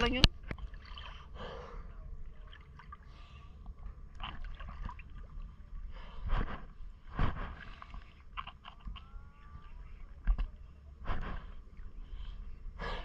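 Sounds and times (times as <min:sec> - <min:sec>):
water sloshing and splashing: 0:00.0 - 0:12.2
steady low rumble: 0:00.0 - 0:13.0.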